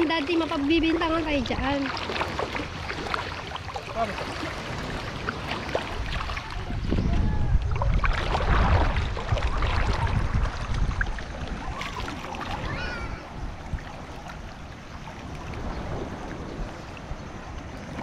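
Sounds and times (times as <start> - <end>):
water sloshing around waders: 0.0 - 18.0
wind rumble on microphone: 0.0 - 18.0.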